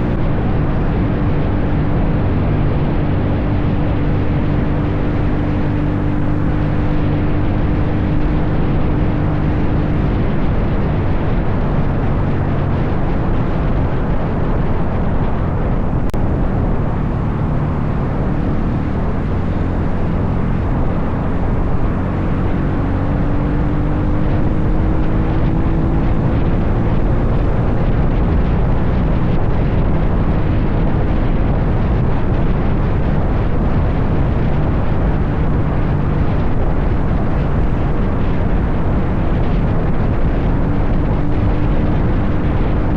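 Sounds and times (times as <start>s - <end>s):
dirt bike engine running: 0.0s - 42.9s
steady rushing noise: 0.0s - 42.9s.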